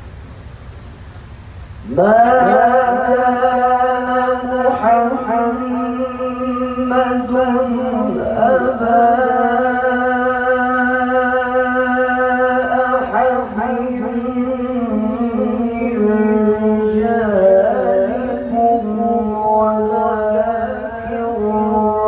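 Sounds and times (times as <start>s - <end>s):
man reciting melodically over loudspeakers: 1.8s - 22.0s.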